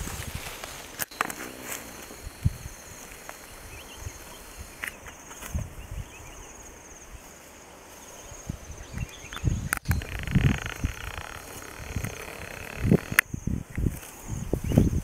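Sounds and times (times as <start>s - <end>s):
insects trilling: 0.4s - 5.5s, 6.1s - 13.6s.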